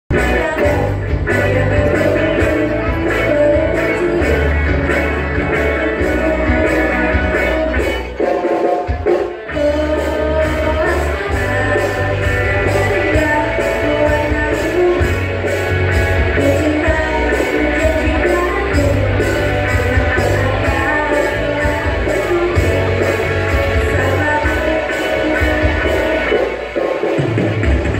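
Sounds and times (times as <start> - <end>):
rock song with singing: 0.1 - 27.9.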